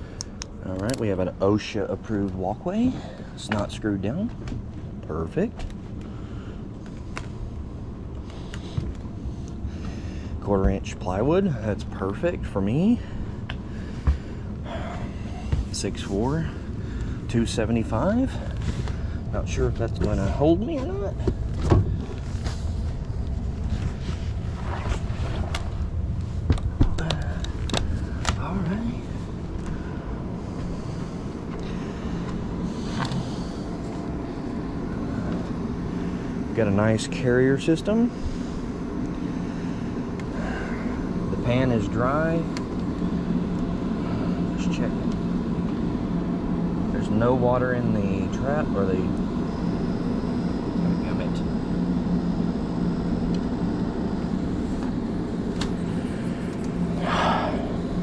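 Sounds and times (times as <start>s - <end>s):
air handler blower running: 0.0s - 58.0s.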